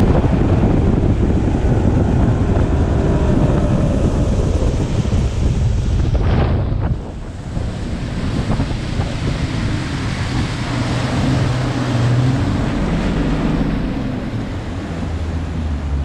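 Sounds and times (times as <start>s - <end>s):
outboard motor drone: 0.0s - 16.0s
water rushing along hull: 0.0s - 16.0s
wind buffeting microphone: 0.0s - 16.0s.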